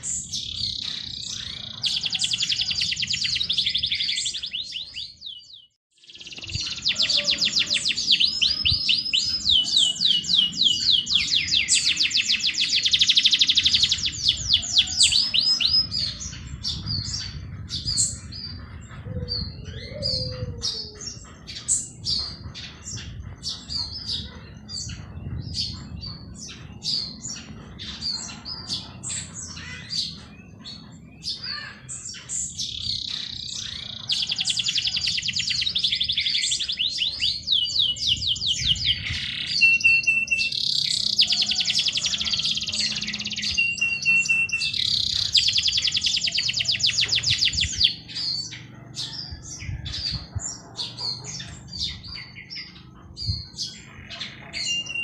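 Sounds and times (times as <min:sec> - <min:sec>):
bird trilling: 0:00.0 - 0:55.0.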